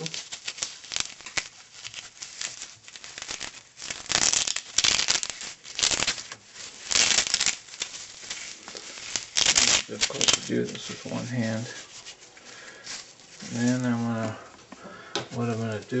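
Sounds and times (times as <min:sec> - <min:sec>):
velcro ripping: 0:00.0 - 0:14.1.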